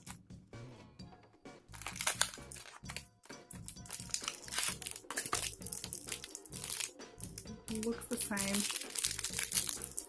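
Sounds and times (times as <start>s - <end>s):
background music: 0.0s - 10.0s
plastic snack packet crinkling: 1.7s - 10.0s.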